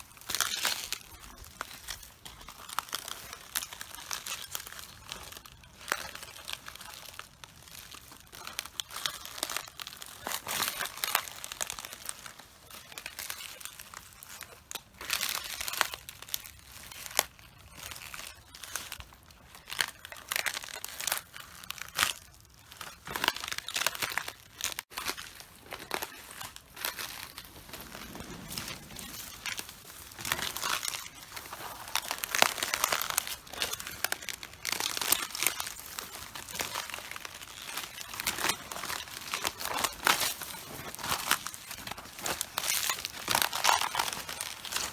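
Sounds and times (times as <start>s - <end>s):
cabbage leaves crunching underfoot: 0.0s - 44.9s.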